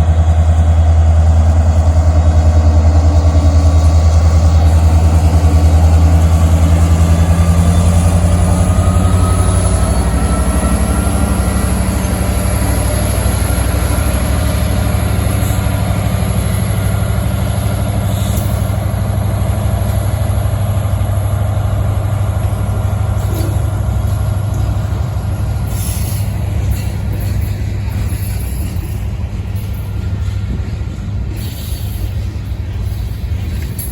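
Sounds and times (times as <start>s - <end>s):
heavy engine humming: 0.0s - 33.9s.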